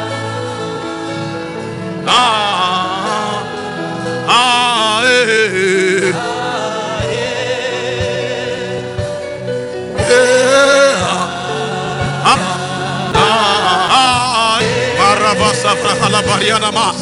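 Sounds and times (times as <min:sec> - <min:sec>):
backing music: 0:00.0 - 0:17.0
gospel singing voices: 0:00.0 - 0:17.0.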